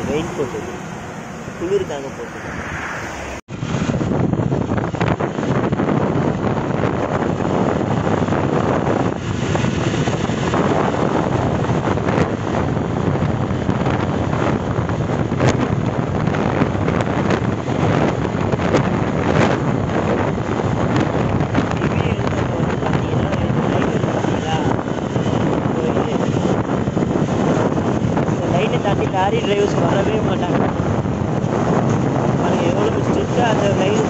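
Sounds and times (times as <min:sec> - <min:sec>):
motorcycle engine: 0:00.0 - 0:34.0
road noise: 0:00.0 - 0:34.0
wind rushing over microphone: 0:00.0 - 0:34.0.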